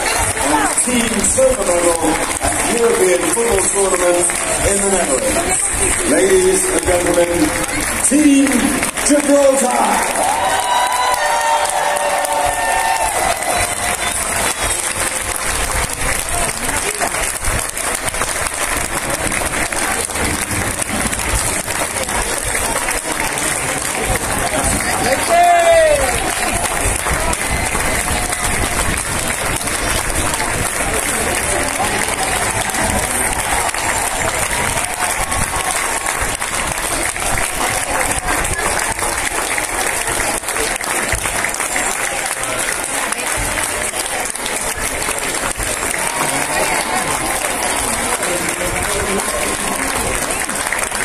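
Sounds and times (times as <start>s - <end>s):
crowd applauding: 0.0s - 51.0s.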